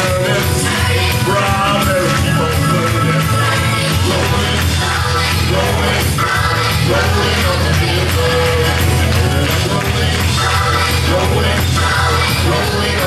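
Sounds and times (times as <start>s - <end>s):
band playing steady beat: 0.0s - 13.0s
person singing: 0.0s - 13.0s.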